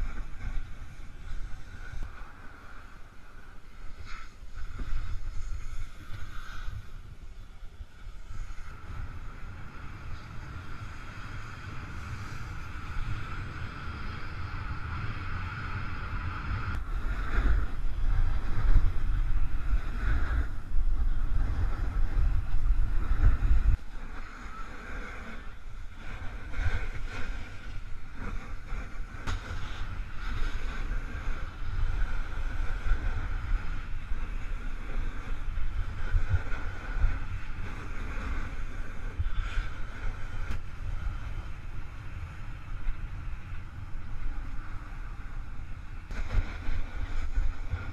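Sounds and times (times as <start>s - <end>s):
snowboard sliding over snow: 0.0s - 47.9s
wind buffeting microphone: 0.0s - 47.9s.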